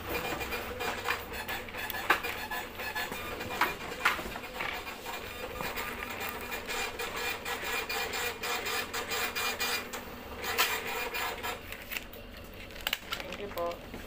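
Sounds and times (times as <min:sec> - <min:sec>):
receipt printer printing: 0:00.0 - 0:14.0.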